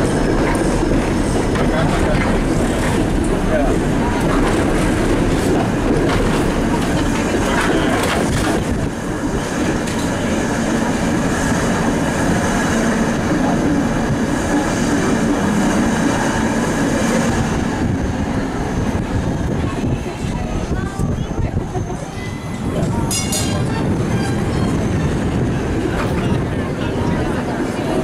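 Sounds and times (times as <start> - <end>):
streetcar wheels rumbling on rails: 0.0 - 28.0.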